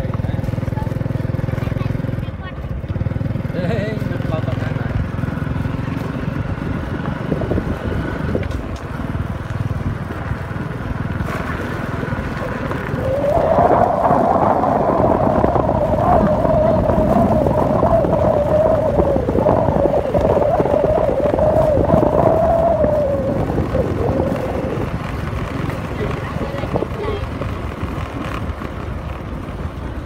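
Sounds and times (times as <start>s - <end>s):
motorbike engine rumble: 0.0s - 30.0s.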